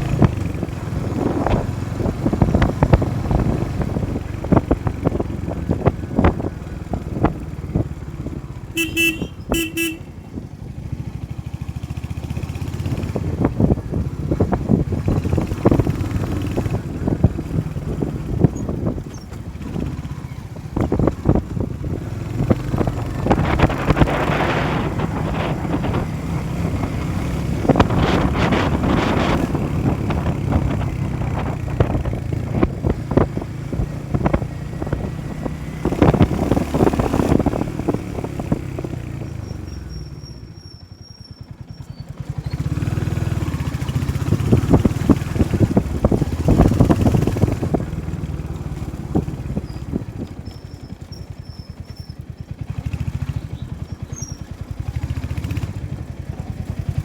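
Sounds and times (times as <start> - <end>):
wind buffeting microphone: 0.0 - 40.6, 41.4 - 57.0
motorcycle engine running: 0.0 - 57.0.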